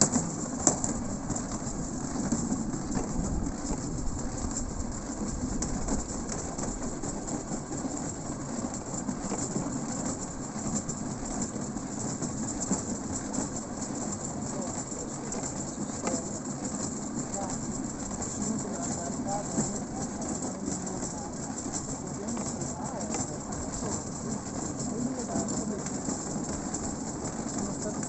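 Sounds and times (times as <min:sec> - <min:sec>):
steel wheels rolling on track: 0:00.0 - 0:28.0.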